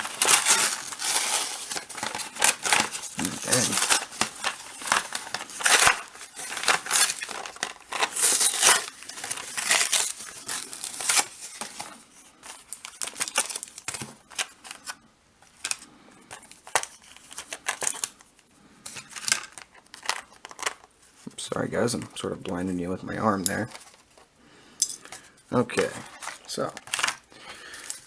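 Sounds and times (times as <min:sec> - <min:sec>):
plastic packaging crinkling and tearing: 0:00.0 - 0:18.3, 0:19.0 - 0:20.9, 0:25.6 - 0:28.0.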